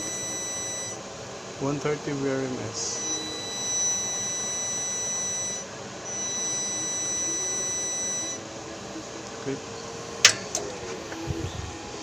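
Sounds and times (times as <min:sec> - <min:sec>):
high-pitched sine test tone: 0:00.0 - 0:08.6, 0:09.4 - 0:11.8.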